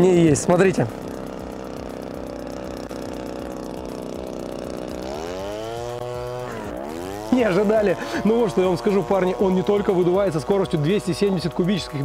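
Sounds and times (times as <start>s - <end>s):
leaf blower engine revving: 0.0s - 12.0s.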